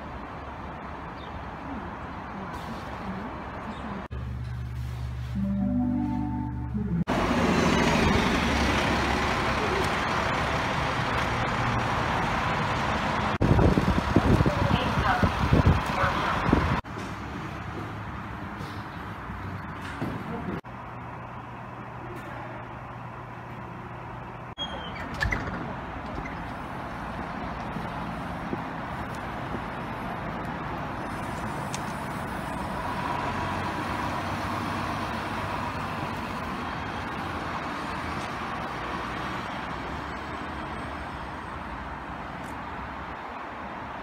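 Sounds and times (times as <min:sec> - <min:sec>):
bus driving past: 0:00.0 - 0:44.0.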